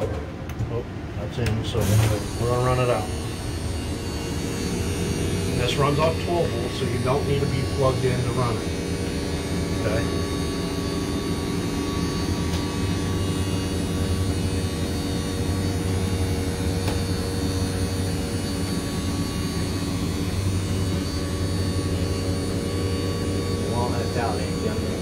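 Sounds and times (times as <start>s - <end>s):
electric motor humming: 1.7s - 25.0s.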